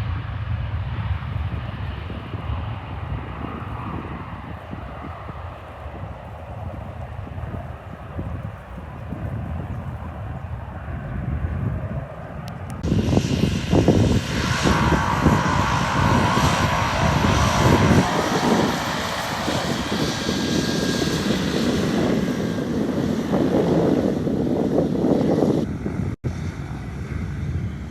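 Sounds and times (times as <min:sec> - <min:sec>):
jet engines at takeoff power: 0:00.0 - 0:27.9
wind buffeting microphone: 0:00.0 - 0:27.9.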